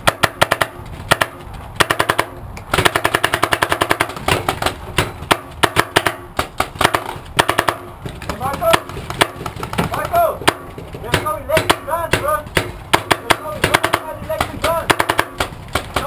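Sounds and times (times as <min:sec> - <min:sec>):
paintball markers firing: 0:00.0 - 0:16.0.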